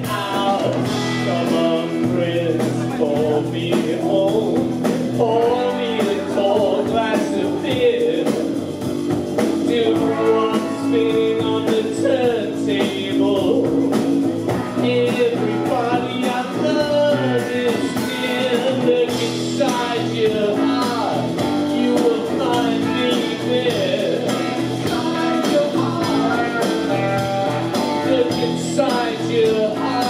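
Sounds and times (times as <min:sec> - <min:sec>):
man singing: 0:00.0 - 0:08.7, 0:09.5 - 0:30.0
bass guitar: 0:00.0 - 0:30.0
drums: 0:00.0 - 0:30.0
electric guitar: 0:00.0 - 0:30.0.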